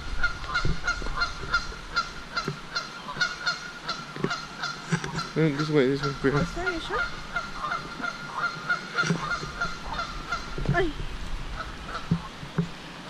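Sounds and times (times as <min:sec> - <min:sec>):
geese honking: 0:00.0 - 0:12.4.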